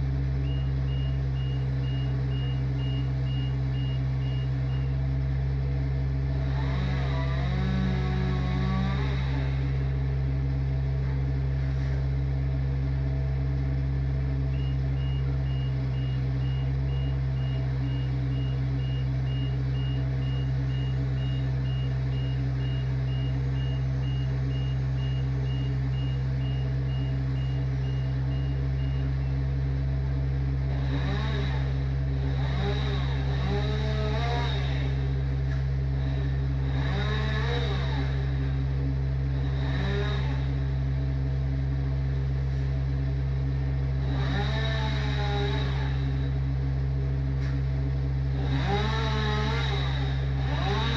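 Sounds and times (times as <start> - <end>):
engine droning: 0.0 - 50.9.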